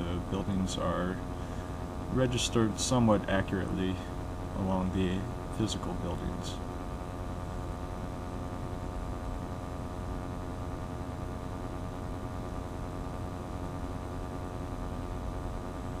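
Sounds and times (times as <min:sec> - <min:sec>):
constant hiss: 0:00.0 - 0:16.0.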